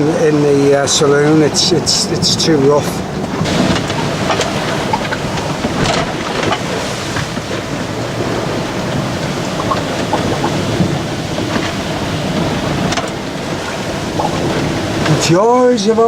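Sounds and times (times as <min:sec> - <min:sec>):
water splashes and knocks: 0:00.0 - 0:15.4
rush of water and wind: 0:00.0 - 0:16.0.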